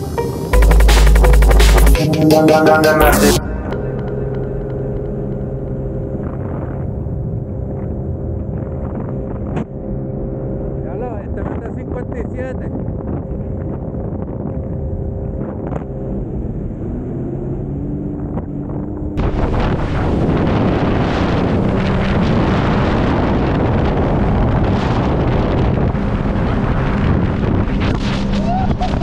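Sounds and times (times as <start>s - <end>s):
watercraft engine running: 3.1s - 29.0s
wind buffeting microphone: 3.5s - 29.0s.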